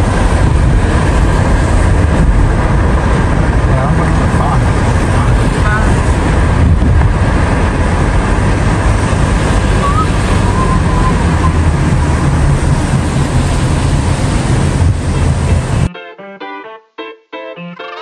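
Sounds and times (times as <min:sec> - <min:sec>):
car road and wind noise: 0:00.0 - 0:15.9.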